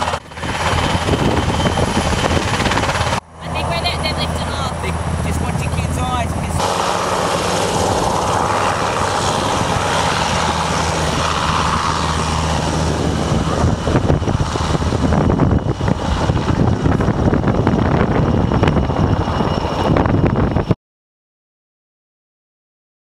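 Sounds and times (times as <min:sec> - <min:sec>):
helicopter rotors humming: 0:00.0 - 0:20.8
high turbine whine: 0:00.0 - 0:20.8.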